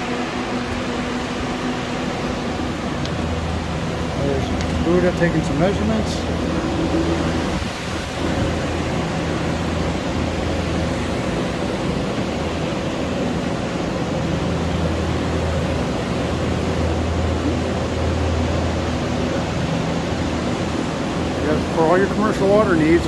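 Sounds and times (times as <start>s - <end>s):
blown air rushing: 0.0s - 22.7s
low motor hum: 0.0s - 23.0s.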